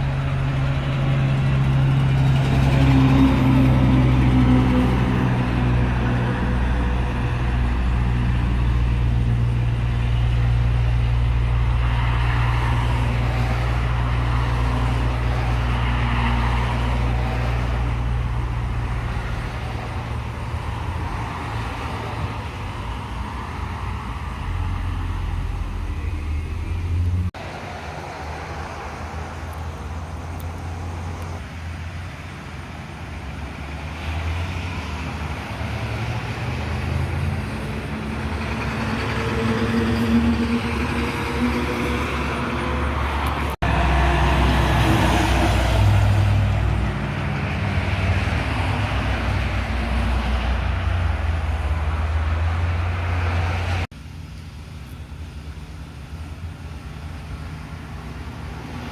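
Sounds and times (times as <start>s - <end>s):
heavy trucks passing: 0.0s - 58.9s
tyre noise on road: 0.0s - 58.9s.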